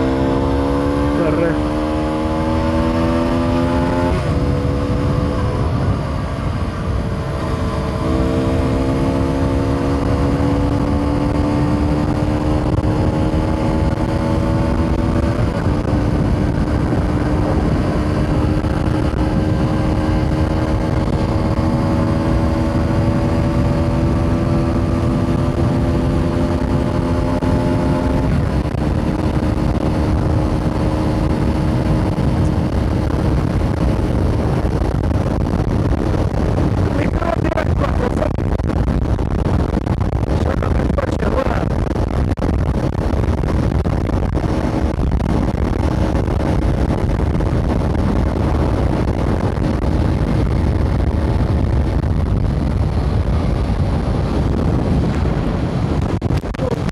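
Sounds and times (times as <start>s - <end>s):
motorcycle engine running: 0.0s - 56.9s
wind rumble on microphone: 0.0s - 56.9s.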